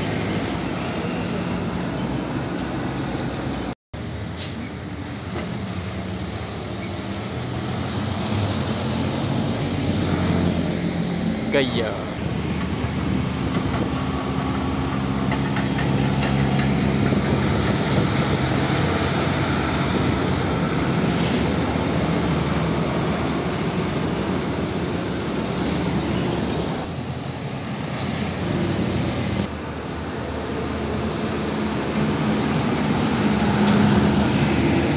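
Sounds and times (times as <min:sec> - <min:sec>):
road and traffic noise: 0:00.0 - 0:34.9
truck diesel engine: 0:00.0 - 0:34.9.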